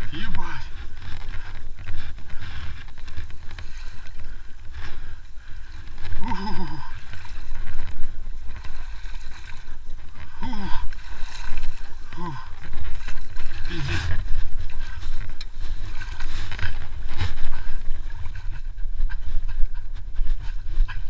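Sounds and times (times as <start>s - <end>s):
water sloshing: 0.0s - 21.0s.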